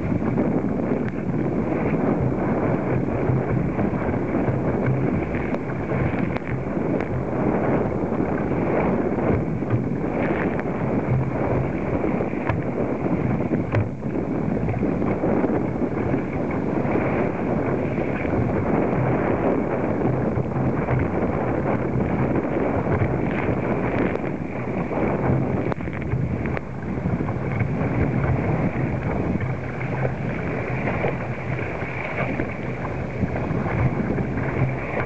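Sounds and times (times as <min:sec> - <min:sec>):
water rushing along kayak hull: 0:00.0 - 0:35.0
wind buffeting microphone: 0:00.0 - 0:35.0.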